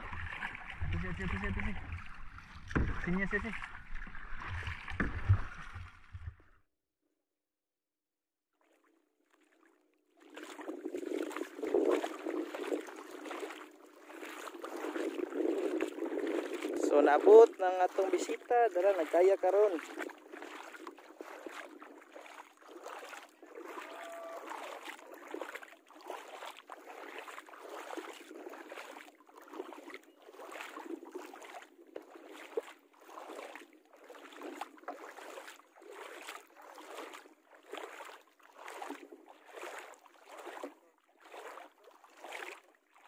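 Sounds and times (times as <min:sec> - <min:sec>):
small waves lapping at shoreline: 0:00.0 - 0:06.6, 0:08.6 - 0:43.0.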